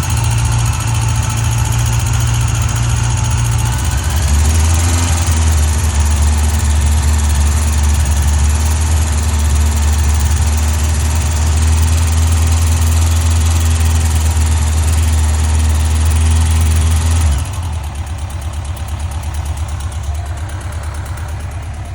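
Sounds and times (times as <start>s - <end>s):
motorcycle engine revving and idling: 0.0s - 21.9s.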